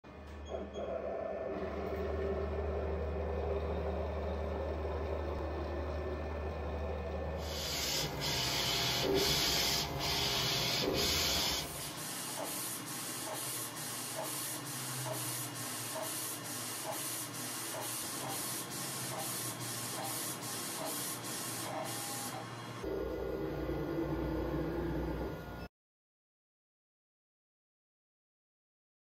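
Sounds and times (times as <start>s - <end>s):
printer mechanical whir: 1.6s - 25.7s.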